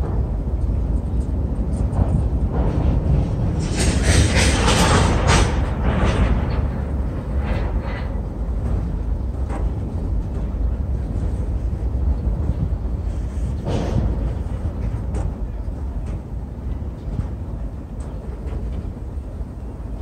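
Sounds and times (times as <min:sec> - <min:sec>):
train wheels rumbling on bridge: 0:00.0 - 0:20.0.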